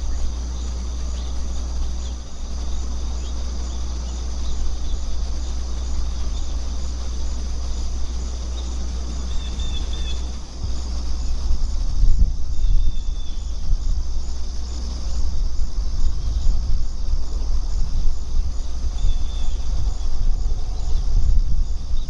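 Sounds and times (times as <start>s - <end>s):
insect chorus buzzing: 0.0s - 22.0s
low rumble: 0.0s - 22.0s.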